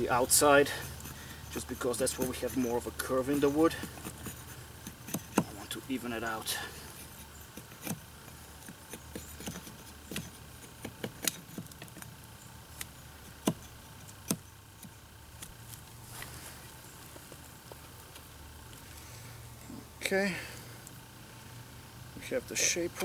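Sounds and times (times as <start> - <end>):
blade shaving wood: 0.0 - 19.2.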